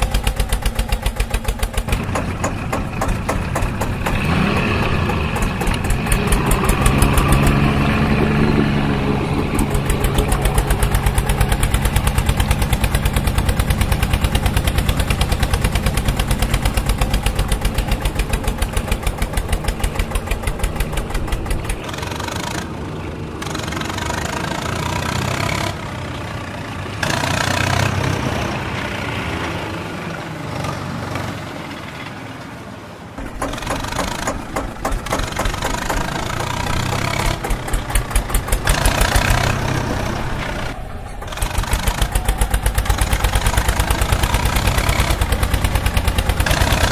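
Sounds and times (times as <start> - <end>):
engine knocking rhythmically: 0.0 - 29.1, 33.2 - 46.9.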